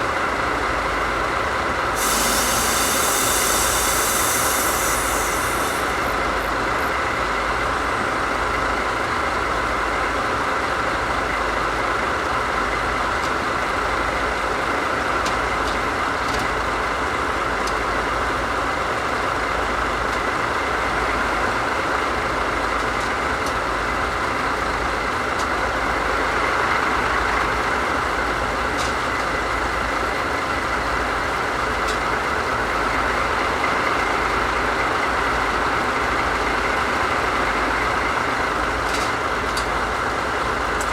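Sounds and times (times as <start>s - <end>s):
locomotive diesel engines idling: 0.0s - 40.9s.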